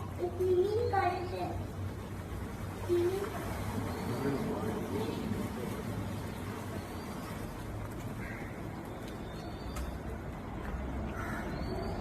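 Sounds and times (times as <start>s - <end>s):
vehicle and road rumble: 0.0s - 12.0s.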